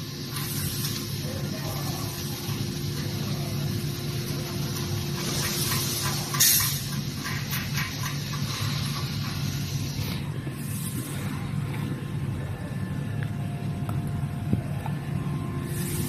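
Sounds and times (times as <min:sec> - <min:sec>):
workshop machinery hum: 0:00.0 - 0:16.0.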